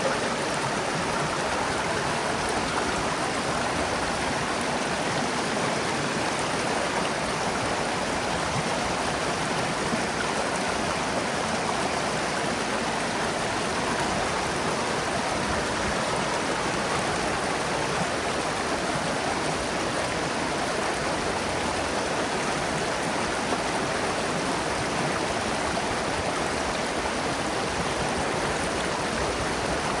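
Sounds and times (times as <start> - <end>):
stream flowing: 0.0 - 30.0.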